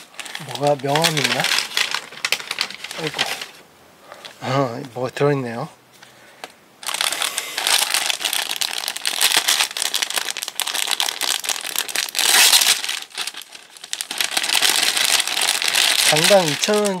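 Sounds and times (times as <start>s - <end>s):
plastic bags crinkling: 0.0s - 3.6s, 6.8s - 17.0s.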